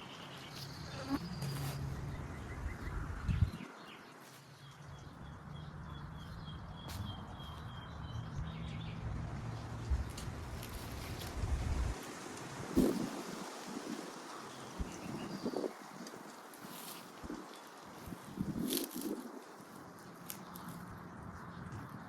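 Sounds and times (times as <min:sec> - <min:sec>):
small birds chirping: 0:00.0 - 0:11.9, 0:12.8 - 0:22.0.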